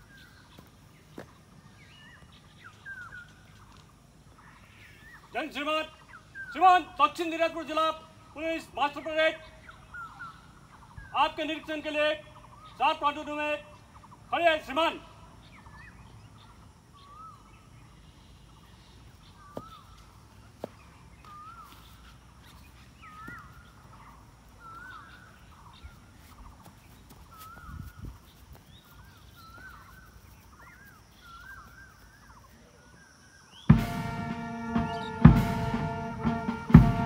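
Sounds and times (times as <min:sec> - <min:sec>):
faint bird calls: 0:00.0 - 0:33.8.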